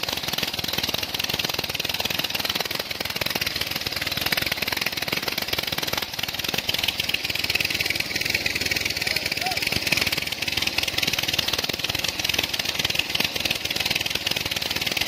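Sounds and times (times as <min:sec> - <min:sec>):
diesel pump engine running: 0:00.0 - 0:15.0.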